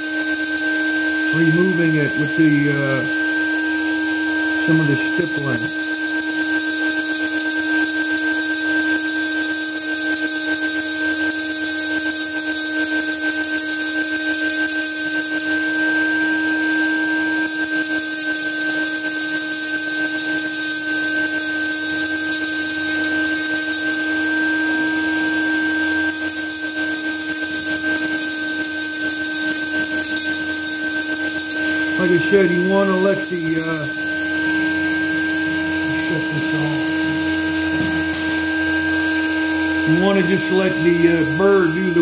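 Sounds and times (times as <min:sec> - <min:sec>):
rotary handpiece whining: 0:00.0 - 0:42.0.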